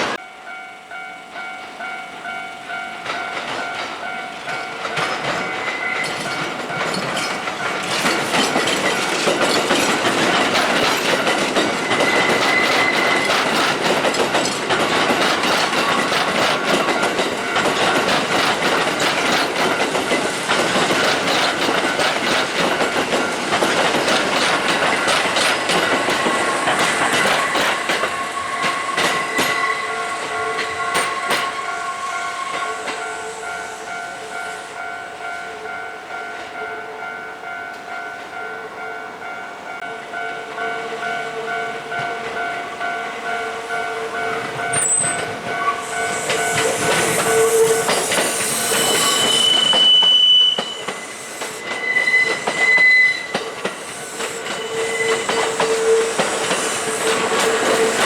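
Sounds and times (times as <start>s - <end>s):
level crossing alarm ringing: 0.0s - 58.0s
train wheels clattering: 1.6s - 34.6s, 39.8s - 58.0s.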